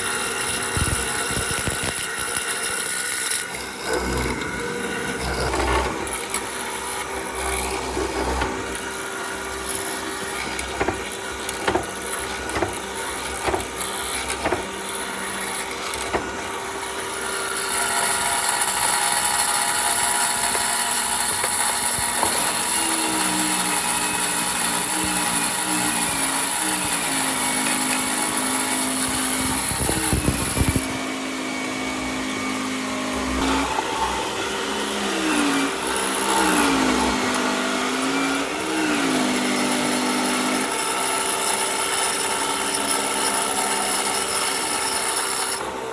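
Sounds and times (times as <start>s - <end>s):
handling clicks and knocks: 0.0s - 31.0s, 35.8s - 45.6s
power tool motor whining: 0.0s - 45.9s.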